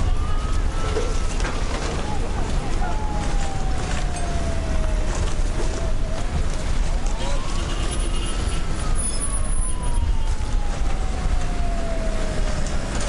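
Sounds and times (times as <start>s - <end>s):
emergency siren wailing: 0.0s - 13.0s.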